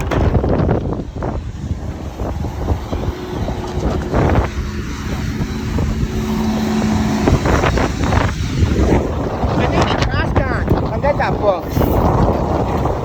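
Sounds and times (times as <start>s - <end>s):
bursts of clatter: 0.0s - 11.1s
garbage truck engine running: 0.0s - 13.0s
steady whine: 0.0s - 13.0s
wind buffeting microphone: 0.0s - 13.0s.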